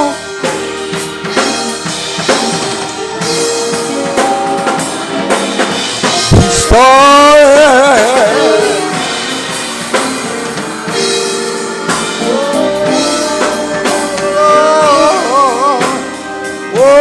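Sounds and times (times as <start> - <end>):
drum hits: 0.0 - 16.1
gospel band playing: 0.0 - 17.0
person singing with vibrato: 0.0 - 17.0.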